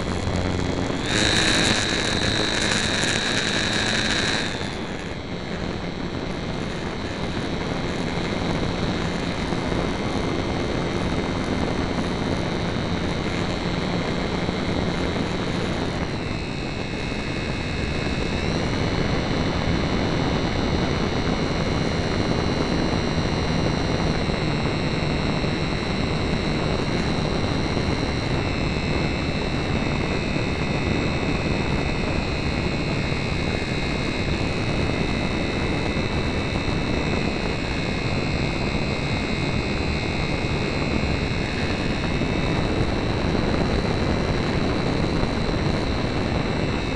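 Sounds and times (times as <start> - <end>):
model airplane motor whine: 0.0 - 46.9
wind rush on microphone: 0.0 - 46.9.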